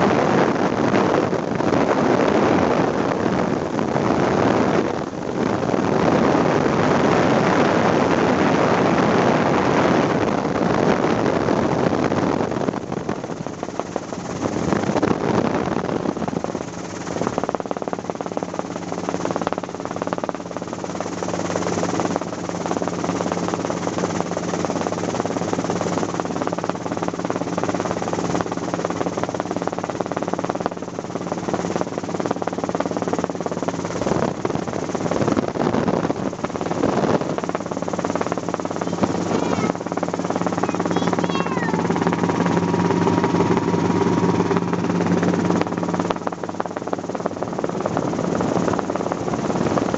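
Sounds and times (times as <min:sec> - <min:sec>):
helicopter rotor and engine: 0:00.0 - 0:49.9.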